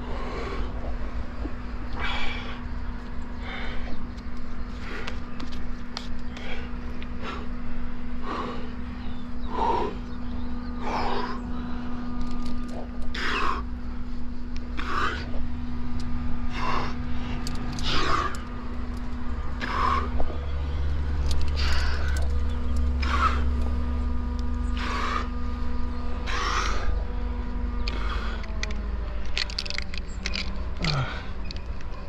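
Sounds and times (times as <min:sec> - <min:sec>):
person breathing heavily: 0:00.0 - 0:23.6, 0:26.2 - 0:29.1, 0:30.8 - 0:31.4
low steady rumble: 0:00.0 - 0:32.0.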